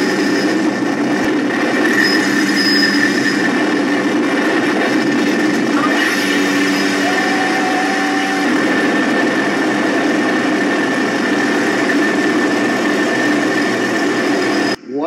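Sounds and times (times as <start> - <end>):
helicopter turbine and rotors: 0.0 - 15.0.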